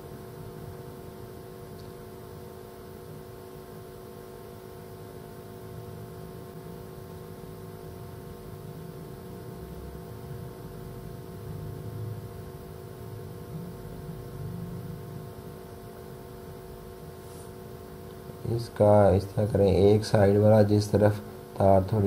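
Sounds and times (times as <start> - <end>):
background hum of held tones: 0.0 - 22.0.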